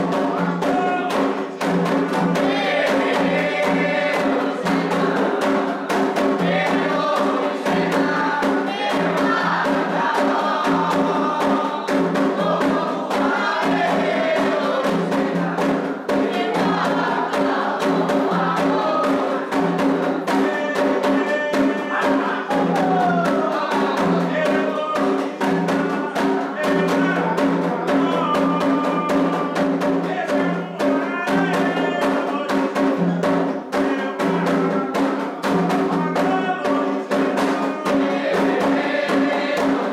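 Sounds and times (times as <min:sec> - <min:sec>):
group of voices chanting: 0:00.0 - 0:32.9, 0:33.7 - 0:39.9
hand drums beating: 0:00.0 - 0:39.9.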